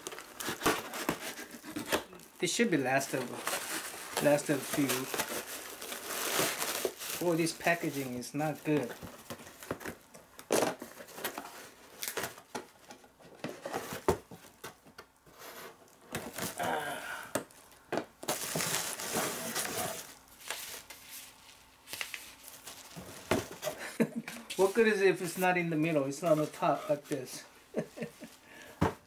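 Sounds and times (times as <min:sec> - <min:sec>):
packaging crinkling and rustling: 0:00.0 - 0:16.6, 0:17.4 - 0:27.2.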